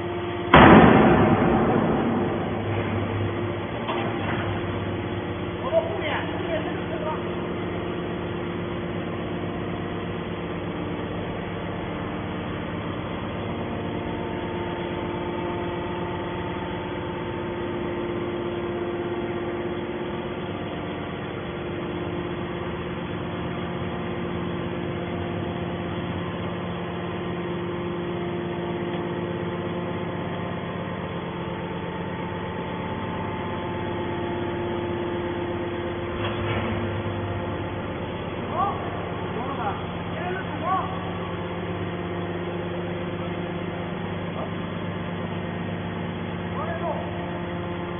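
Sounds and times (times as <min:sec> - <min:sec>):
baling press machinery humming: 0:00.0 - 0:47.9.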